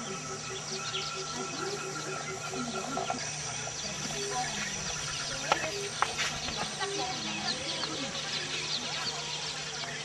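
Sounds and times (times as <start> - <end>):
chickens clucking: 0.0 - 10.0
steady high-pitched whine: 0.0 - 10.0.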